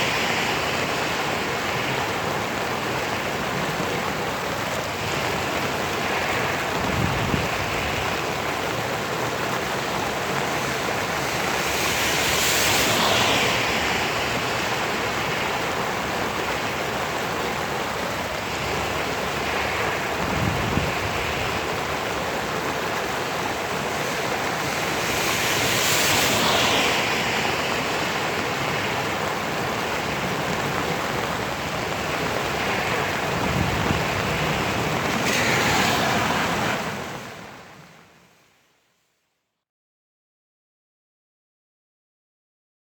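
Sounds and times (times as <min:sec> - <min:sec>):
rain hissing: 0:00.0 - 0:38.4.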